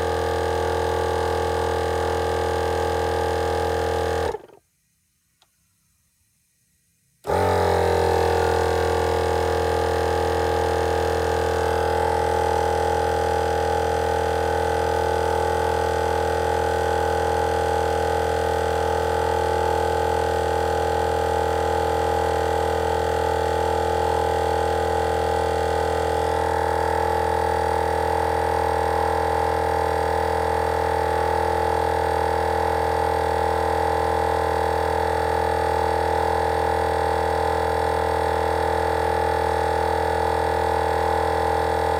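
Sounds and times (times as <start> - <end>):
air compressor humming: 0.0 - 4.6, 7.2 - 41.9.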